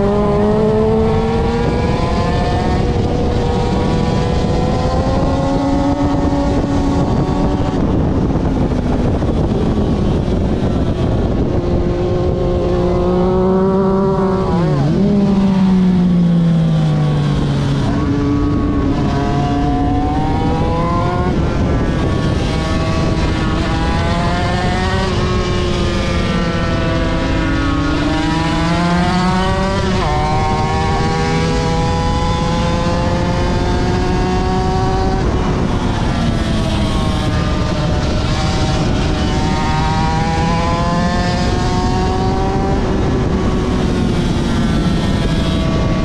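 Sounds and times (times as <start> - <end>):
race engine accelerating: 0.0 - 46.0.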